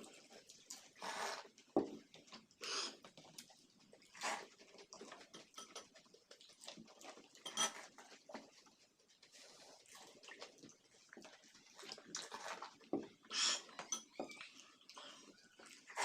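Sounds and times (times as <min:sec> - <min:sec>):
slurping water: 0:00.0 - 0:16.0.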